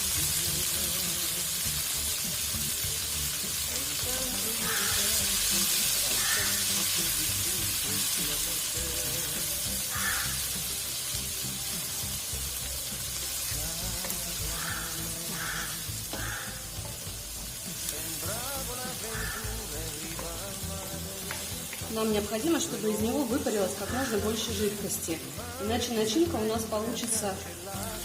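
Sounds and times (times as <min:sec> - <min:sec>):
background music: 0:00.0 - 0:28.0
greens sizzling in oil: 0:00.0 - 0:28.0.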